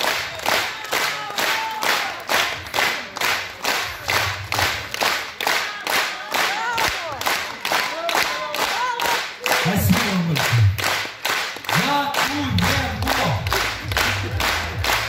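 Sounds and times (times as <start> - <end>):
audience clapping in unison: 0.0 - 15.0
close hands clapping: 0.0 - 15.0.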